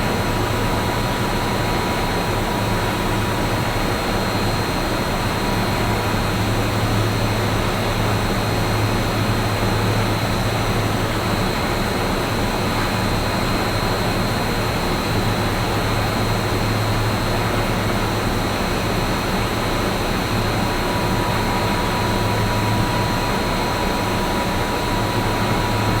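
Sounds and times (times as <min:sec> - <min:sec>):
boiler plant machine roar: 0:00.0 - 0:26.0.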